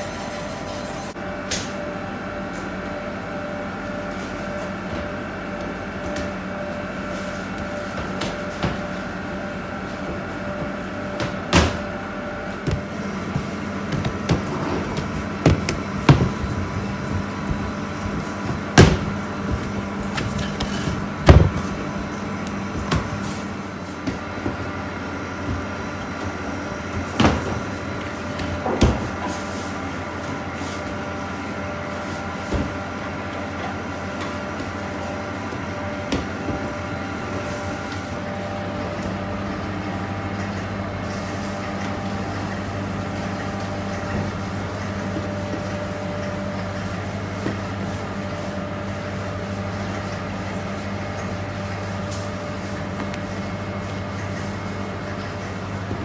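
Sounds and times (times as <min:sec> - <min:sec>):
kitchen equipment hum: 0:00.0 - 0:56.0.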